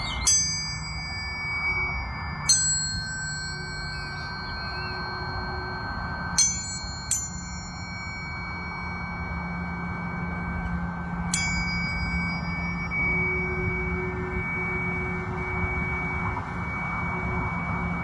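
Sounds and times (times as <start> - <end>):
tuning forks ringing: 0.0 - 18.0
tuning forks struck: 0.0 - 18.0.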